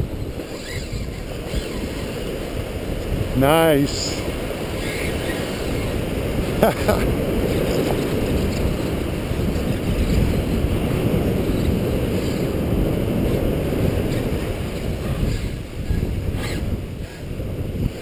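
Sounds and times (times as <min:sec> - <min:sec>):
waves washing: 0:00.0 - 0:17.4
wind buffeting microphone: 0:00.0 - 0:18.0.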